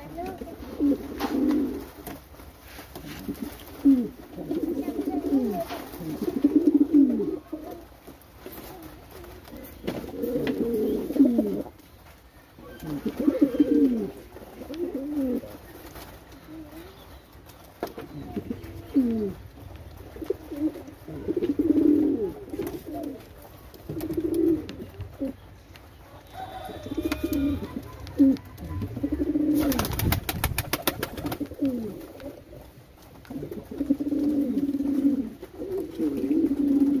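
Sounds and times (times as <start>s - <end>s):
pigeons cooing: 0.0s - 2.2s, 3.0s - 11.8s, 12.5s - 37.0s.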